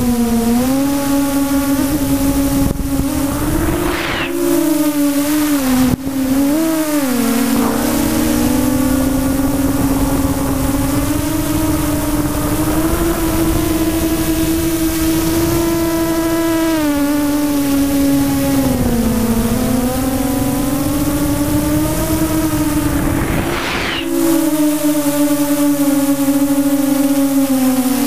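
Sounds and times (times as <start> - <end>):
model aircraft motor whining: 0.0 - 28.0
wind rushing past microphone: 1.4 - 25.6.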